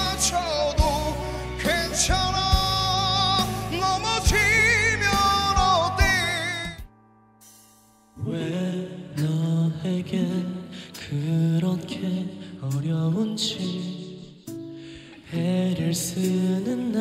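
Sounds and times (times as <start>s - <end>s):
soft instrumental introduction: 0.0s - 17.0s.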